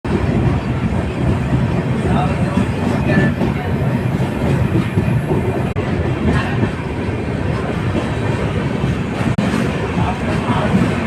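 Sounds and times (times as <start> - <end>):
train wheels rumbling on rails: 0.1 - 11.0.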